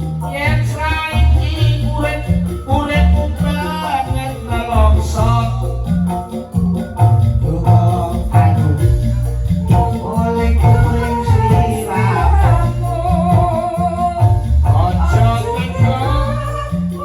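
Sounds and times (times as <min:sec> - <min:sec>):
heavy pulsing bass: 0:00.0 - 0:17.0
live band music: 0:00.0 - 0:17.0
person singing: 0:00.0 - 0:17.0.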